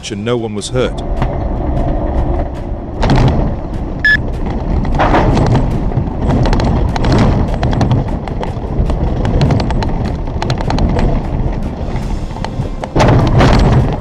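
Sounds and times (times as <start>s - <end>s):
vehicle rolling over rough ground: 0.0s - 14.0s
knocks and rattles: 1.1s - 14.0s.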